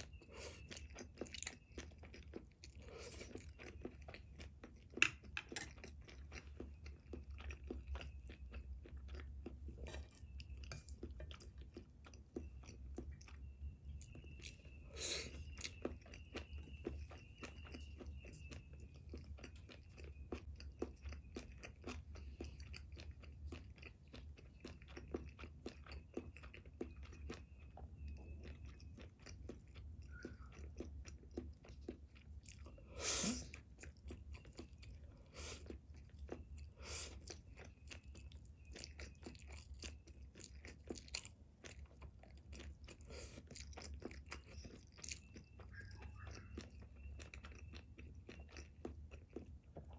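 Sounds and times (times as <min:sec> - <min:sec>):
person chewing: 0:00.0 - 0:49.9.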